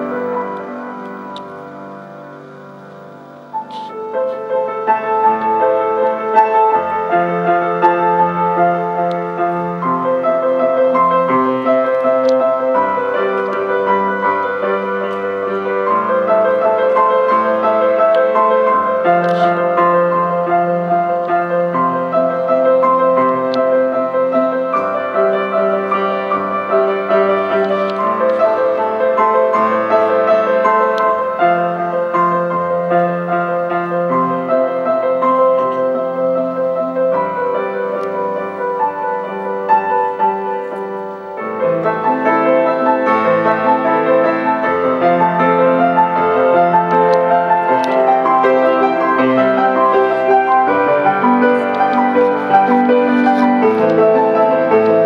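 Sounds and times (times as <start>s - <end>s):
grand piano chords: 0.0s - 55.0s.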